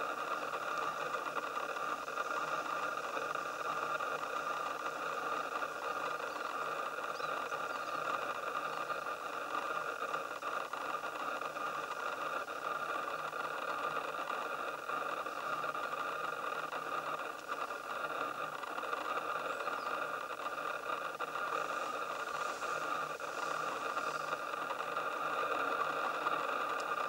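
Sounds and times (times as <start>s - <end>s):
mechanical hum with hiss: 0.0s - 27.0s.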